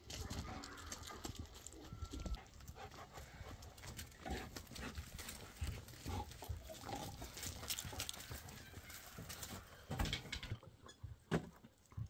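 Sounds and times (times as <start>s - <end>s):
footsteps on gravel: 0.0s - 9.9s.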